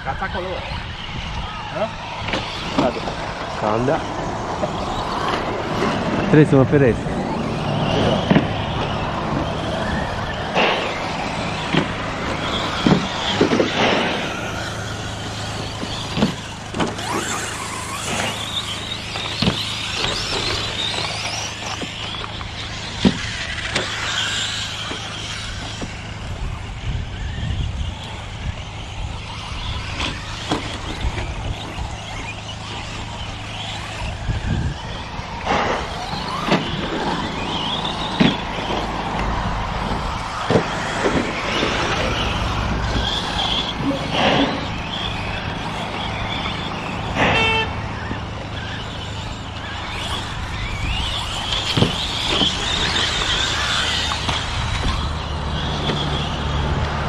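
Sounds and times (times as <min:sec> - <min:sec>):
electric motors whining: 0:00.0 - 0:57.0.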